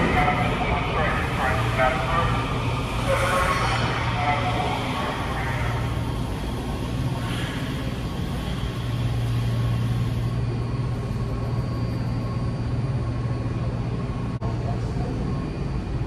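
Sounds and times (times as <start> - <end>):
train equipment humming: 0.0 - 14.4
constant rushing noise: 0.0 - 16.0.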